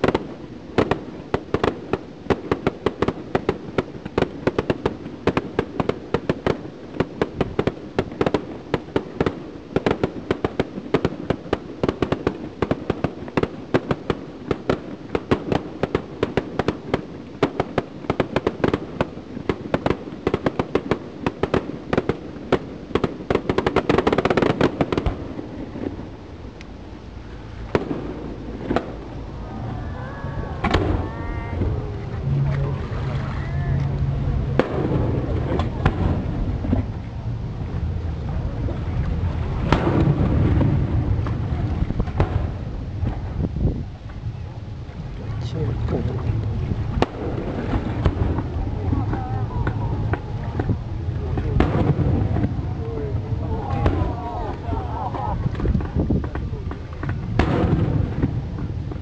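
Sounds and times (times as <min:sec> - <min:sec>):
rushing firework burst: 0:00.0 - 0:43.6, 0:45.4 - 0:59.0
fireworks banging: 0:00.0 - 0:44.3, 0:45.4 - 0:59.0.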